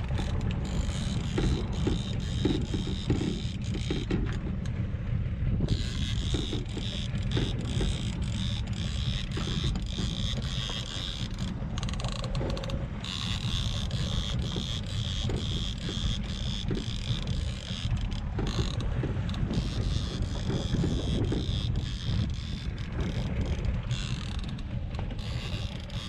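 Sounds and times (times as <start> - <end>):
fishing reel clicking and ratcheting: 0.0 - 4.7, 5.6 - 26.0
boat engine drone: 0.0 - 26.0
wind on microphone: 0.0 - 26.0.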